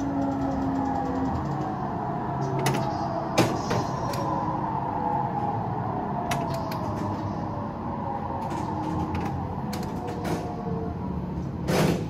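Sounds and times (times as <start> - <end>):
electric train rumble and whine: 0.0 - 12.0.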